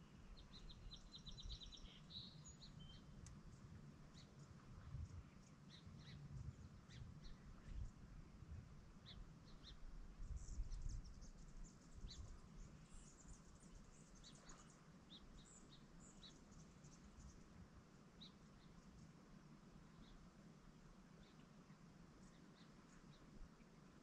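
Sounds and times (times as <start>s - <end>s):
faint bird chirps: 0.0s - 8.0s, 9.0s - 17.6s, 19.9s - 20.3s, 21.1s - 23.8s.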